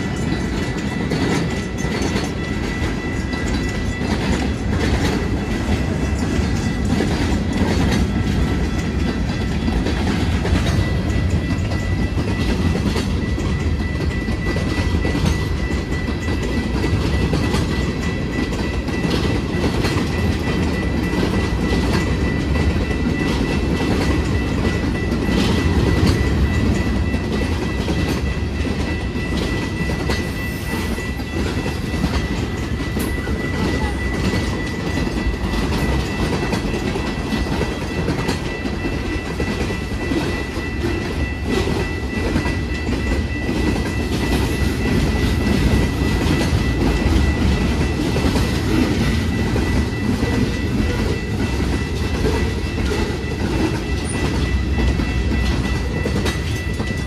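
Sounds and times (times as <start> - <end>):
freight train rumbling past: 0.0 - 57.0
steady high tone: 0.0 - 57.0.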